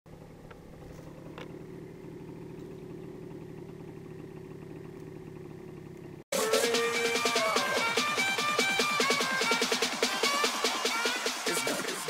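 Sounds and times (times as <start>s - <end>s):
small quad engine idling: 0.1s - 12.0s.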